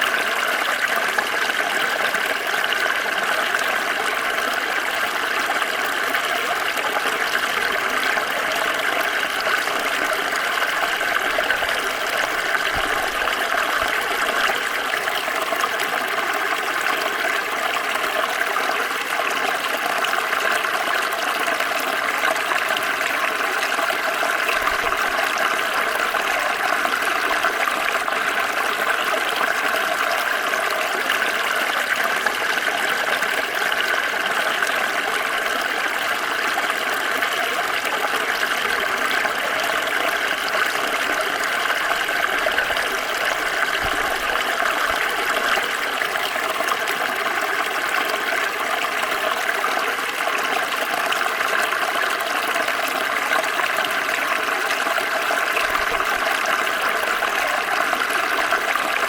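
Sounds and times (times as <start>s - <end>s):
stream trickling over stones: 0.0s - 59.0s.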